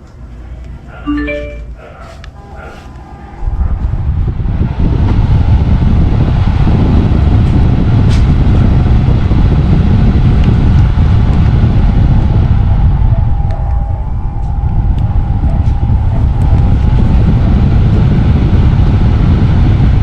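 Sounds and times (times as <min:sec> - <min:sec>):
faint motor hum: 0:00.0 - 0:20.0
air buffeting microphone: 0:01.6 - 0:20.0.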